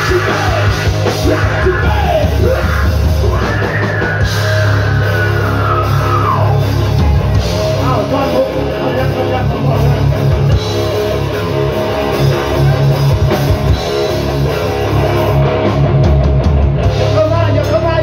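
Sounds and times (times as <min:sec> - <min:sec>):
drum kit: 0:00.0 - 0:18.0
electric guitar: 0:00.0 - 0:18.0
heavy bass: 0:00.0 - 0:18.0.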